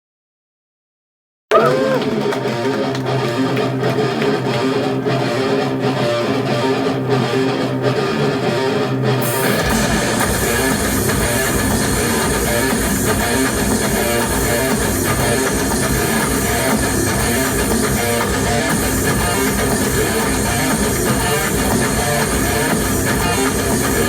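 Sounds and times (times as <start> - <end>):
electric guitar picking and strumming: 1.5 - 24.0
rock band with drums: 1.5 - 24.0.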